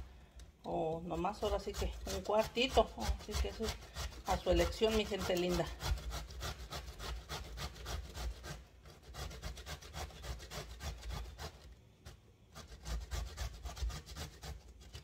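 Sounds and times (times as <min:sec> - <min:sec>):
zucchini grated on metal grater: 0:00.7 - 0:15.0.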